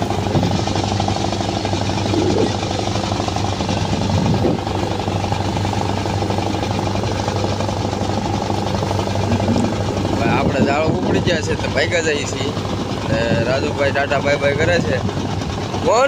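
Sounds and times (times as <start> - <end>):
boat engine chugging: 0.0 - 16.0.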